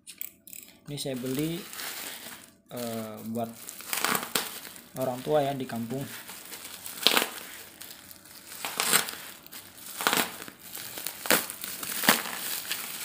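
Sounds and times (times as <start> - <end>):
plastic wrapping crinkling: 0.9 - 13.0.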